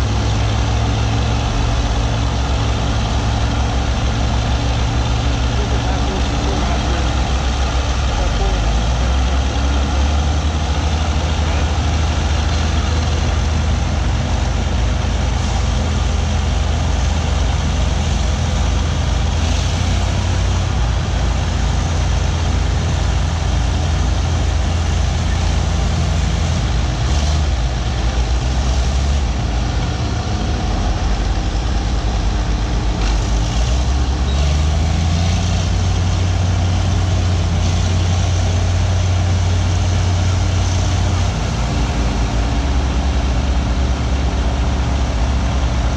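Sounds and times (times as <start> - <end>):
bulldozer diesel engines under load: 0.0 - 45.9.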